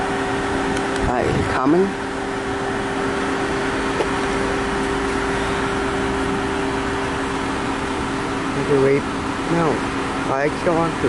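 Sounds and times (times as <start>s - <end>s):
car interior hum and rushing: 0.0s - 11.0s
steady low tones: 0.0s - 11.0s.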